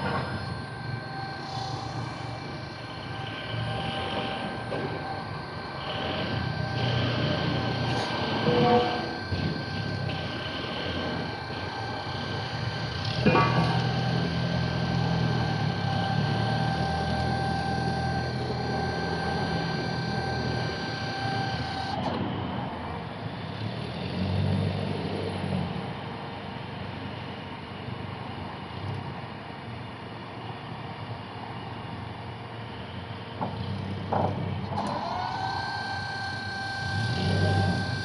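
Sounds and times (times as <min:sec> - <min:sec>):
electric motor whine: 0:00.0 - 0:25.9, 0:32.8 - 0:38.0.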